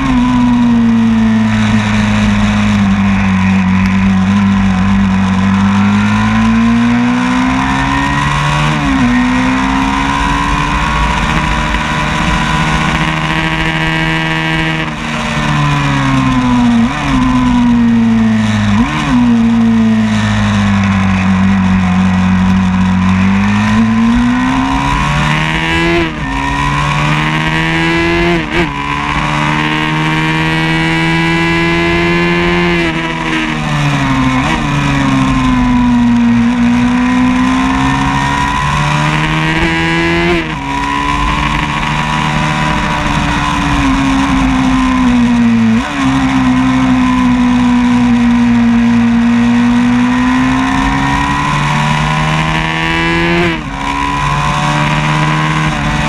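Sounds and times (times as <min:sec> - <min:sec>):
racing motorcycle engine at speed: 0:00.0 - 0:56.0.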